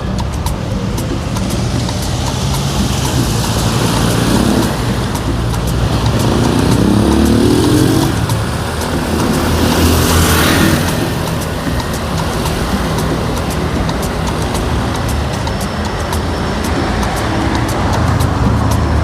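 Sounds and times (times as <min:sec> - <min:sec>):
background traffic noise: 0:00.0 - 0:19.0
vehicle accelerating past: 0:00.0 - 0:19.0
vehicle passing: 0:00.0 - 0:19.0.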